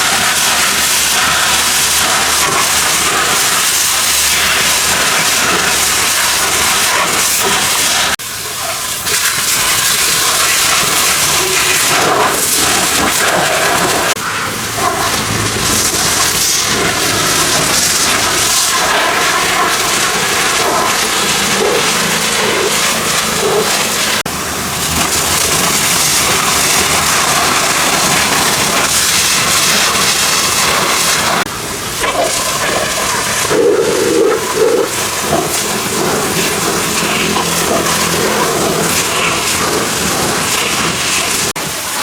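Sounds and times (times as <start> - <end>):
pressure washer spraying water: 0.0 - 42.0.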